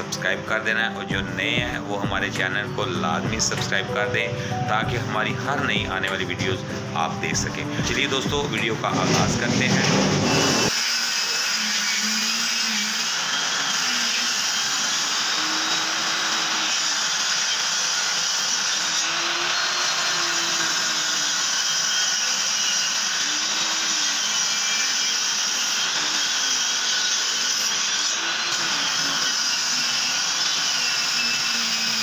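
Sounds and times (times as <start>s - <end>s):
table saw cutting board: 0.0s - 32.0s.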